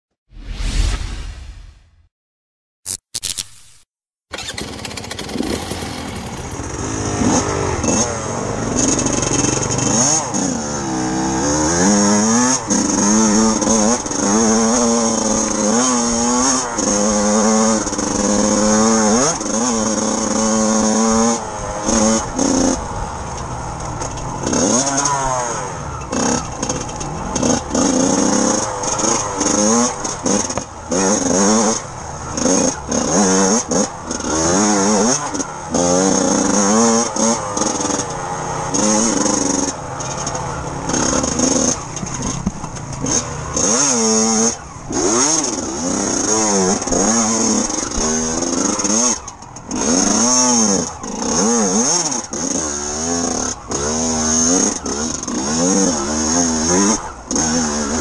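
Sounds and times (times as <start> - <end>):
dirt bike engine revving: 2.9 - 58.0.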